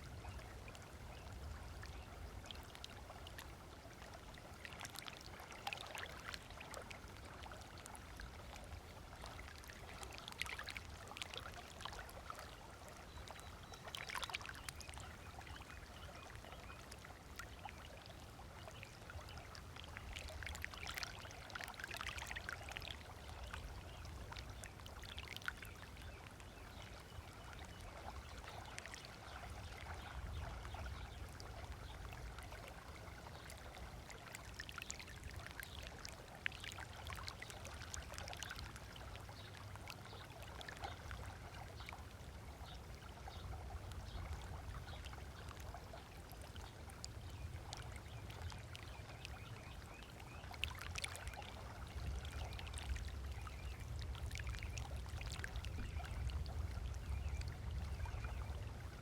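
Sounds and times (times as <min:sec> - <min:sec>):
small waves lapping on shore: 0:00.0 - 0:59.0.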